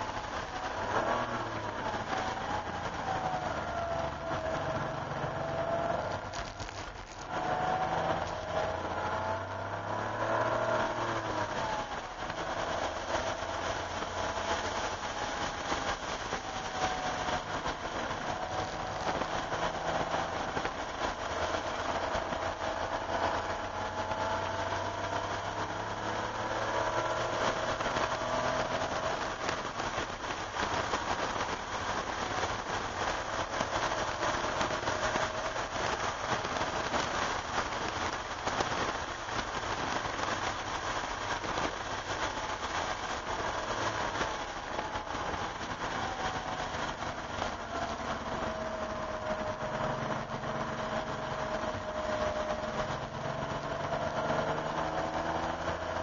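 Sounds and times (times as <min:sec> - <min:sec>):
car engine accelerating: 0:00.0 - 0:56.0
water spray and rain hiss: 0:00.0 - 0:56.0.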